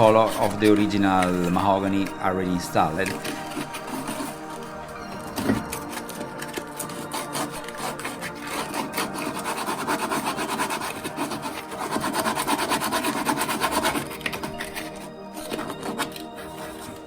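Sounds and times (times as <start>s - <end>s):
background music: 0.0s - 17.0s
scraping and rubbing on wood: 0.0s - 17.0s.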